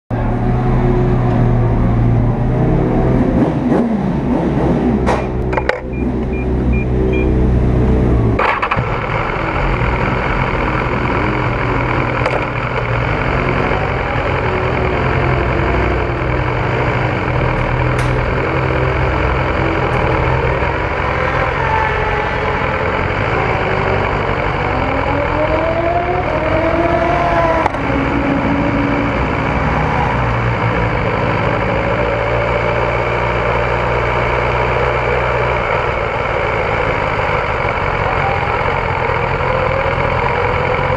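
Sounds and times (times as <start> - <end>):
motorcycle engines idling and revving: 0.1 - 40.9.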